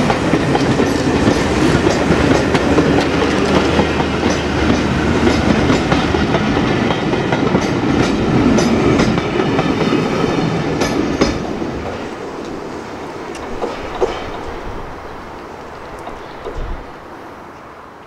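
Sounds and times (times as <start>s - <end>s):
train wheels clacking over rail joints: 0.0s - 12.6s, 13.3s - 14.9s, 15.7s - 17.0s.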